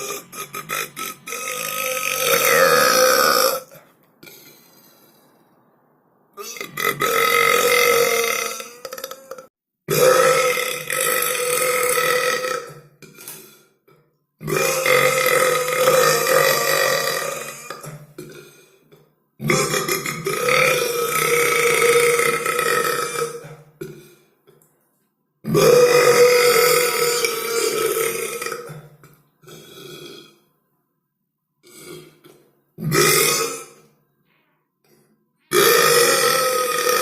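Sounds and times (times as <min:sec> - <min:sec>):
person belching loudly: 0:00.0 - 0:05.1, 0:06.4 - 0:18.7, 0:19.4 - 0:24.3, 0:25.4 - 0:30.4, 0:31.6 - 0:33.8, 0:35.5 - 0:37.0.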